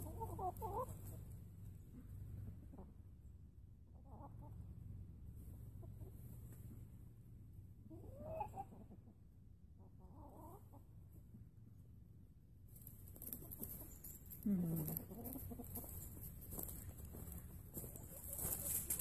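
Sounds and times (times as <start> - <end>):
chickens clucking: 0.0 - 7.0, 7.7 - 11.3, 12.8 - 19.0.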